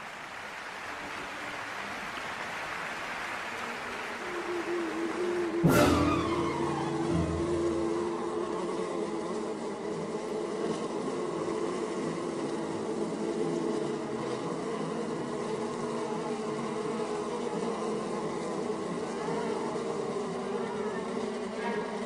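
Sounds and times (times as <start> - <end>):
honeybees buzzing: 1.0 - 22.0.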